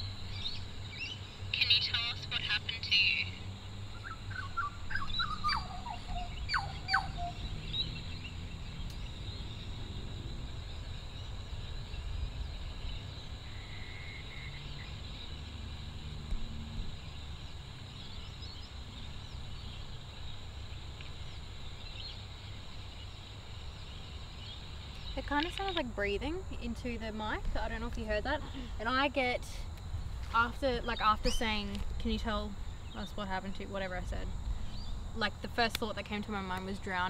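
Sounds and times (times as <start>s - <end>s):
birds calling: 0.0s - 15.7s, 16.4s - 29.4s, 30.0s - 35.1s
low rumble of background noise: 0.0s - 37.0s.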